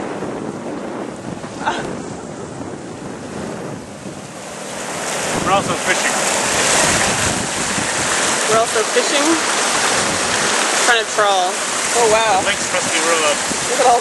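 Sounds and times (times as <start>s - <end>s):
water rushing along a boat hull: 0.0s - 14.0s
wind buffeting microphone: 0.0s - 14.0s.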